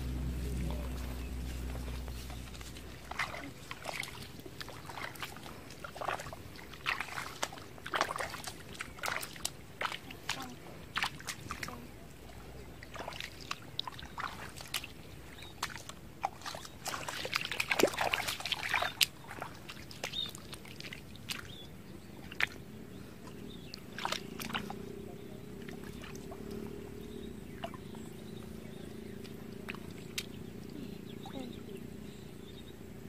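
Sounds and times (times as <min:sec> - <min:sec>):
splashing in shallow water: 0:00.0 - 0:32.1
faint low hum: 0:00.0 - 0:33.0.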